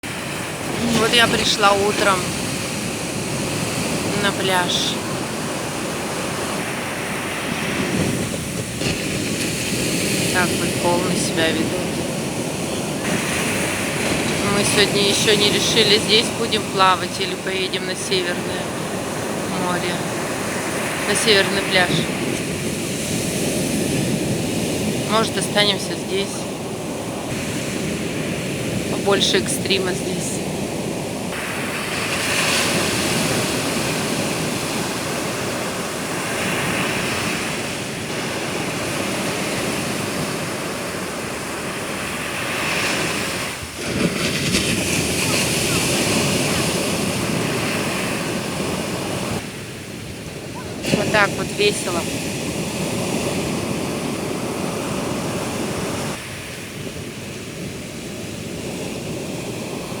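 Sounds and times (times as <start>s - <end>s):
surf waves roaring on beach: 0.0s - 60.0s.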